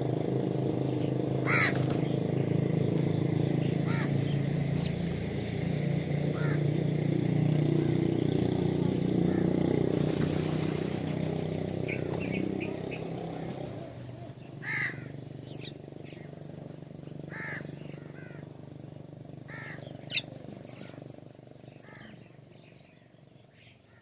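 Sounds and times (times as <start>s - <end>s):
birds chirping: 0.0s - 24.0s
vehicle engine hum: 0.0s - 24.0s.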